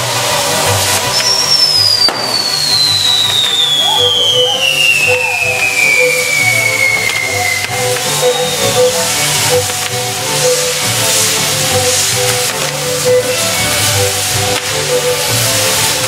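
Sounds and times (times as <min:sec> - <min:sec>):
falling firework whistle: 0:00.0 - 0:16.0
fireworks hissing and crackling: 0:00.0 - 0:16.0
sharp crack: 0:00.0 - 0:16.0.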